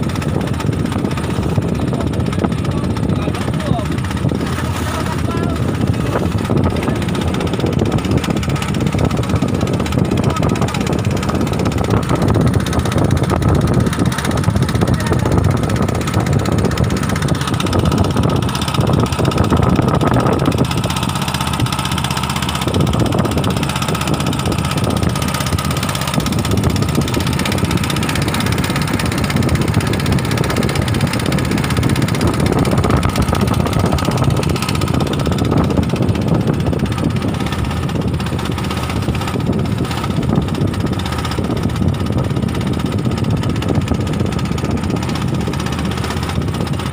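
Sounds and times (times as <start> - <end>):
boat engine rumbling: 0.0 - 46.9.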